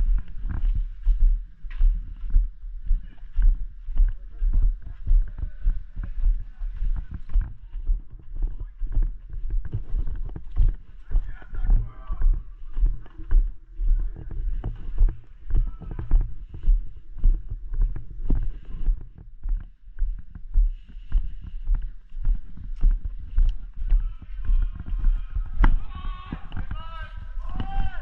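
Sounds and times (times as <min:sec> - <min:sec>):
footsteps on a trail: 0:00.0 - 0:28.0.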